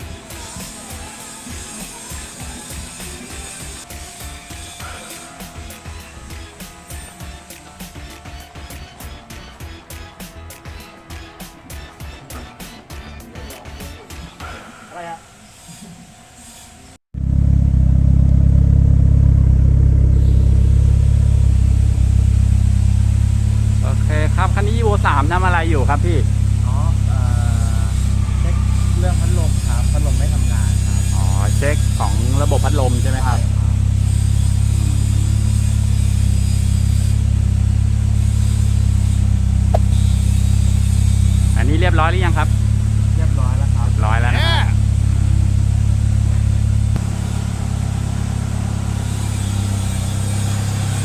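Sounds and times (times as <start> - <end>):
car engine running: 0.0 - 10.6, 17.1 - 51.0.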